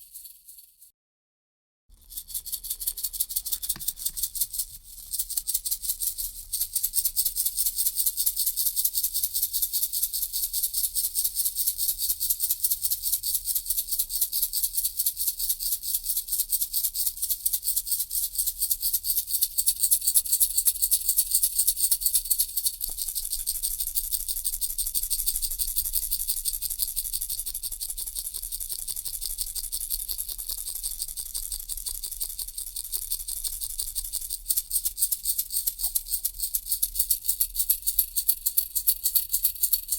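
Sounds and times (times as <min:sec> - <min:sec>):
baby rattle shaking: 0:00.0 - 0:00.8, 0:02.0 - 0:10.8, 0:15.7 - 0:39.9.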